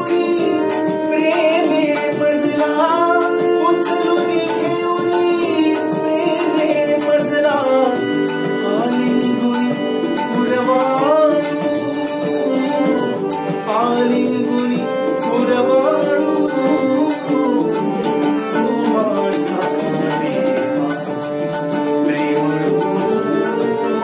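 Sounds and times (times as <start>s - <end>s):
held instrumental chords: 0.0s - 24.0s
light percussion beat: 0.0s - 24.0s
man singing devotional song: 0.0s - 24.0s.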